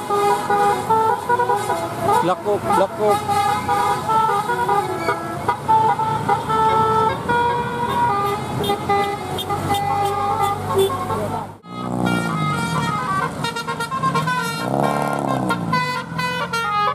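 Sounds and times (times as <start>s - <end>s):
musical bus air horn: 0.0s - 16.9s.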